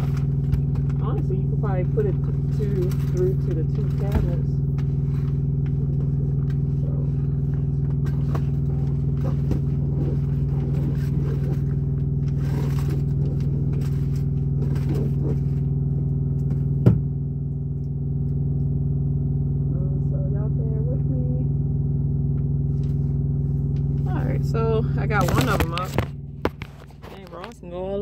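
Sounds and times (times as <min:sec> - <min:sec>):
truck idling drone: 0:00.0 - 0:28.0.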